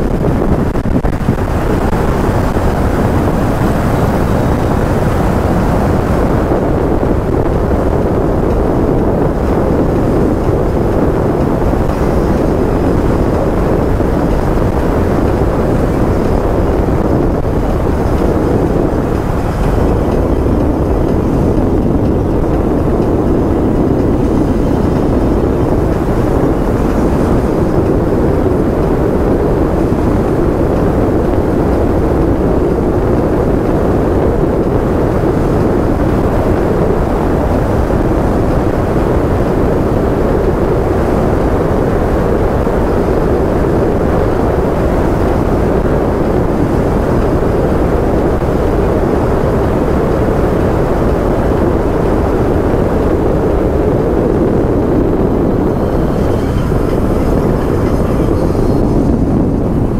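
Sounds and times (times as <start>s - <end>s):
road noise: 0.0s - 59.9s
wind rushing on microphone: 0.0s - 59.9s.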